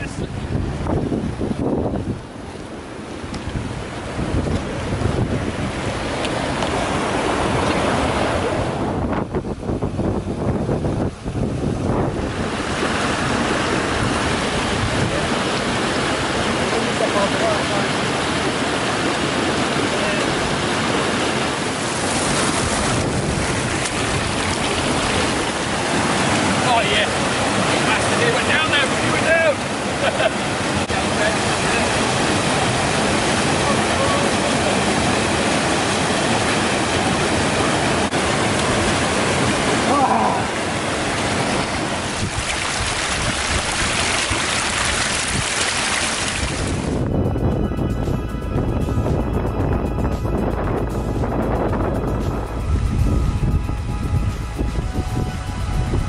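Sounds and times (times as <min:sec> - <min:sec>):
stream rushing over rocks: 0:00.0 - 0:47.0
wind buffeting microphone: 0:00.0 - 0:56.0.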